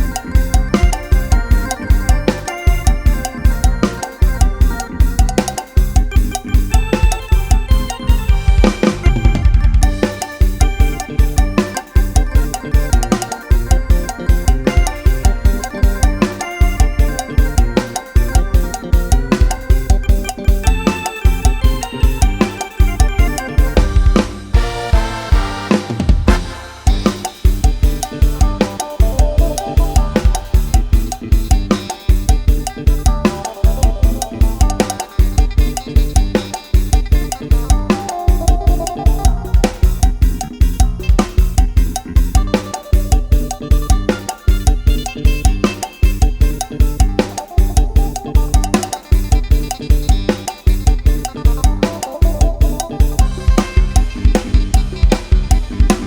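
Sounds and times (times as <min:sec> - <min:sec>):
drum kit fast beat: 0:00.0 - 0:56.0
repeating instrumental melody: 0:00.0 - 0:56.0.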